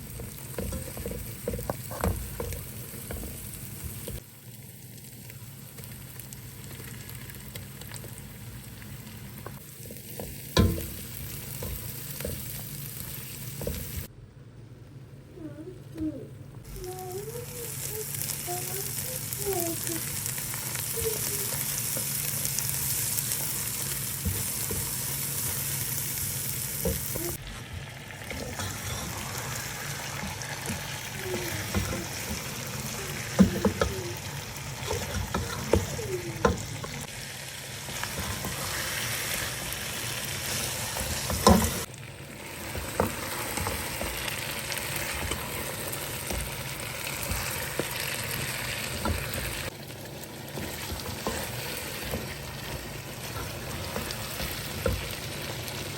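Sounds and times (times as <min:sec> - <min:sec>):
food sizzling in a pot: 0:00.0 - 0:14.1, 0:16.7 - 0:55.9.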